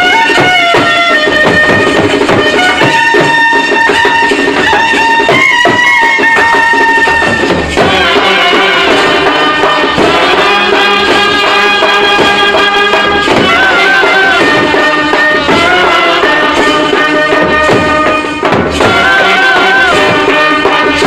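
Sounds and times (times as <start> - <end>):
street brass band playing: 0.0 - 21.0.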